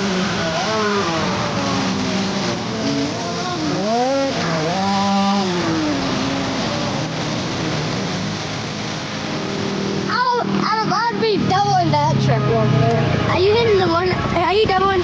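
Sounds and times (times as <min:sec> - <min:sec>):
dirt bike engines drone: 0:00.0 - 0:15.0
dirt bike revving: 0:00.0 - 0:15.0.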